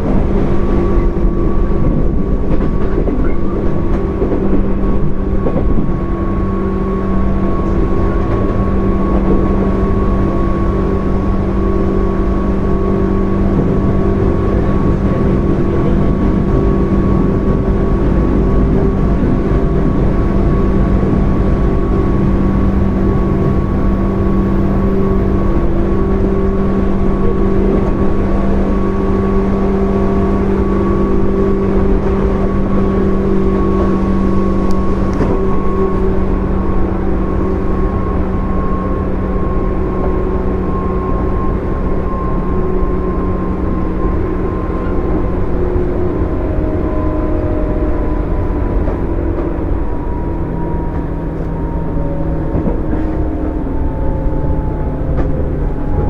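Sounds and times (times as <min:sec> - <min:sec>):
traction motor hum and whine: 0:00.0 - 0:56.0
wheels rumbling on rail: 0:00.0 - 0:56.0.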